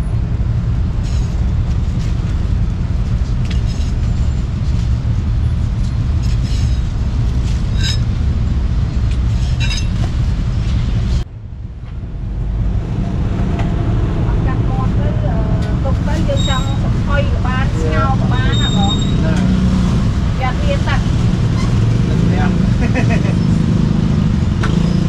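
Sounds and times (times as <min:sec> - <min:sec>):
street traffic rumble: 0:00.0 - 0:25.0.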